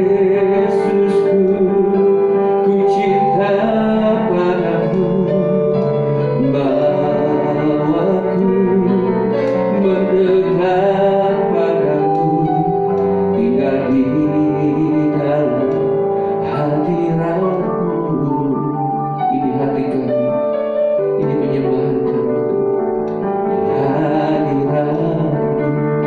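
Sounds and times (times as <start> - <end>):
electronic keyboard playing chords: 0.0 - 26.0.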